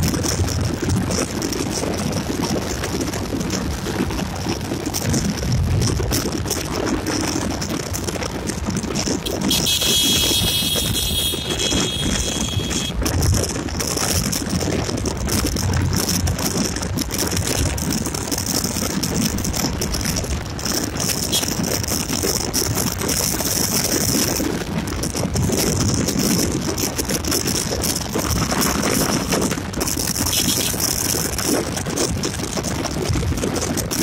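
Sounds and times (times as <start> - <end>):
motorcycle engine running: 0.0 - 34.0
wind rushing on microphone: 0.0 - 34.0.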